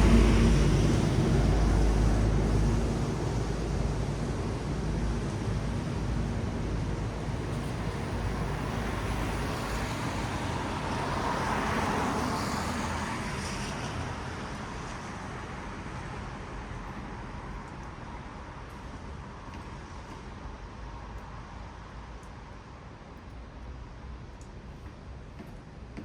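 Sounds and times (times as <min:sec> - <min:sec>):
tyres hissing on wet road: 0:00.0 - 0:22.1.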